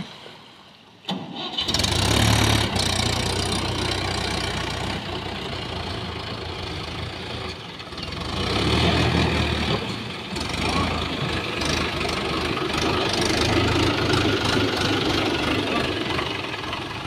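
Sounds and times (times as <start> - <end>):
tractor diesel engine under load: 1.0 - 17.0.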